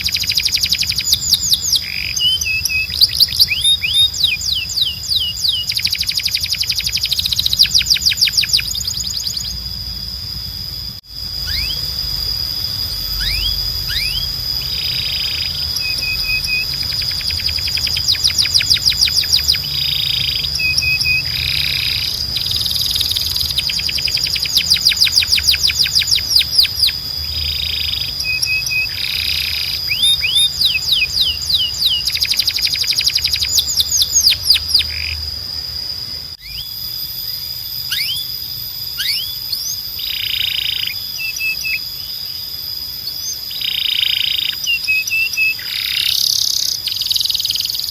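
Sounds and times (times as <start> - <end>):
canary singing trills: 0.0 - 47.9
steady high-pitched tone: 0.0 - 47.9.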